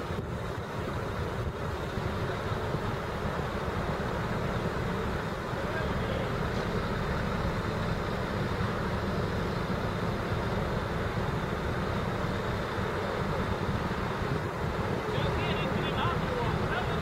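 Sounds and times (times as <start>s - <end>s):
diesel engines rumbling: 0.0s - 17.0s.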